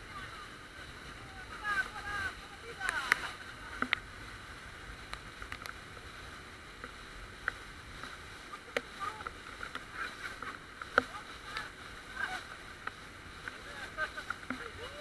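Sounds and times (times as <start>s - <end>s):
water and wind rushing: 0.0s - 15.0s.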